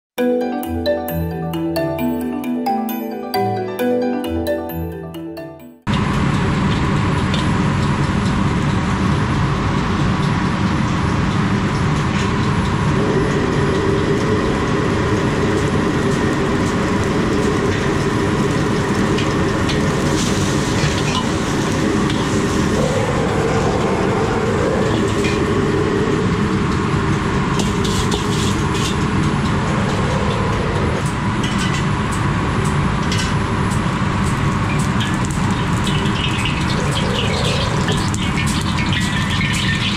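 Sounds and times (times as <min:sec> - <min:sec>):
wok burner roaring: 0:05.9 - 0:39.9
water boiling: 0:06.0 - 0:39.9.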